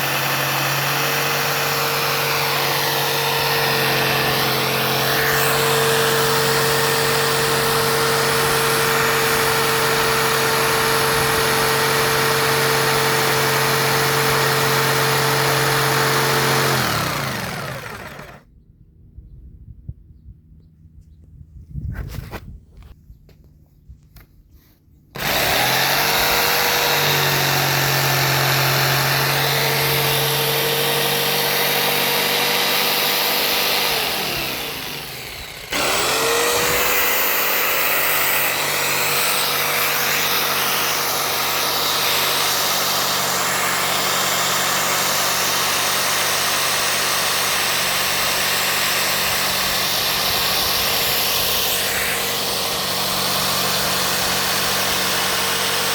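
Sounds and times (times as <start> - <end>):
blade grinding stone: 0.0 - 18.4, 25.2 - 55.9
jigsaw motor whine: 0.0 - 18.5, 25.1 - 55.9.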